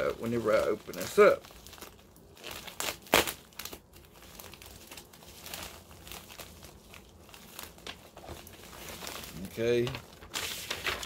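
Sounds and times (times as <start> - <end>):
plastic mailer crinkling: 0.0 - 11.0.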